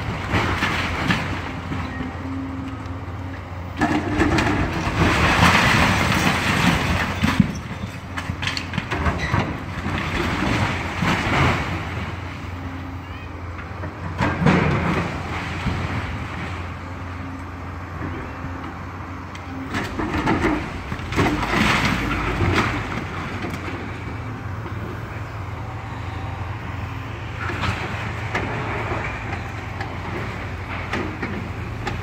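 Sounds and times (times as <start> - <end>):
excavator diesel engine droning: 0.0 - 32.0.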